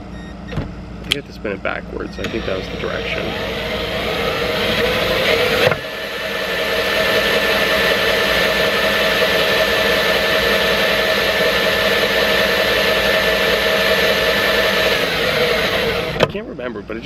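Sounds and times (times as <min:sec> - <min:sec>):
high motor whine: 0:00.0 - 0:17.0
drill whirring: 0:02.1 - 0:16.2.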